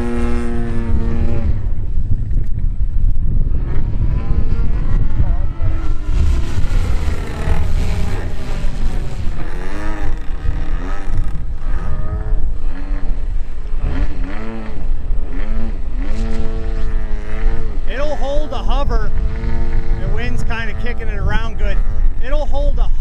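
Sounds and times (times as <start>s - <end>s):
model plane engine revving: 0.0s - 1.8s, 3.4s - 22.7s
wind rumble on microphone: 0.0s - 23.0s.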